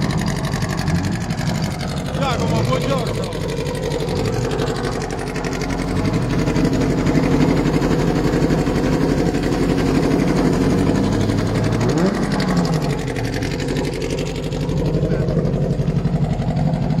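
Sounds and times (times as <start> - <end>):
engine revving: 0.0 - 17.0
racing car engine idling: 0.0 - 17.0.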